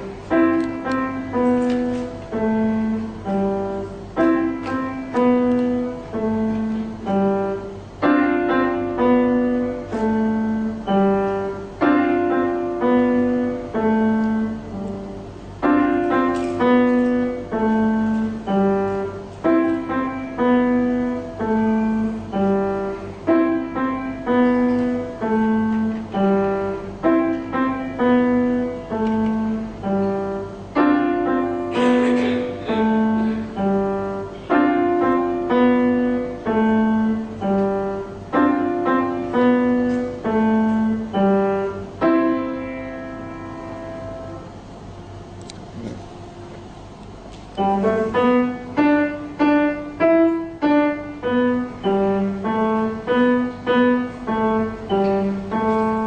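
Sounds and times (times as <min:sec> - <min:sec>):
piano melody: 0:00.0 - 0:56.0.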